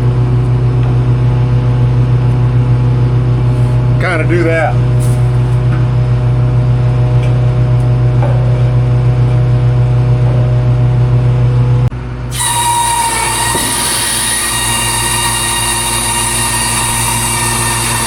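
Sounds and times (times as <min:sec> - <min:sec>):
farm machinery engine humming: 0:00.0 - 0:18.0
high machine whine: 0:00.0 - 0:18.0.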